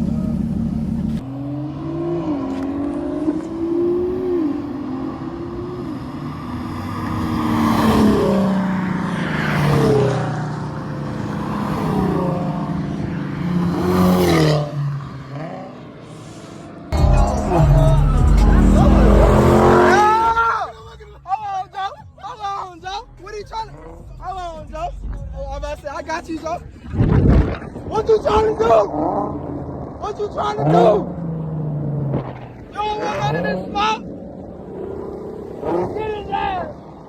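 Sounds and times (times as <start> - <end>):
car engine and exhaust revving: 0.0 - 21.0, 22.9 - 37.0.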